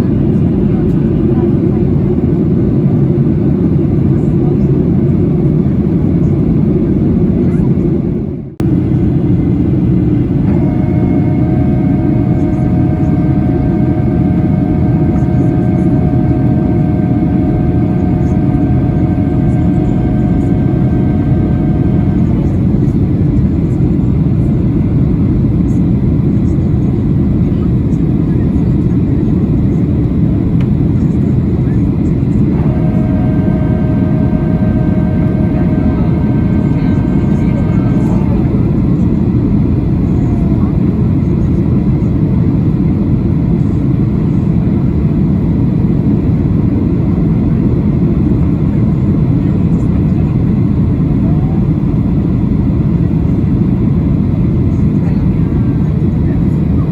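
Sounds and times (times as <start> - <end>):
airplane cabin roar: 0.0 - 56.9
faint whine: 0.0 - 56.9.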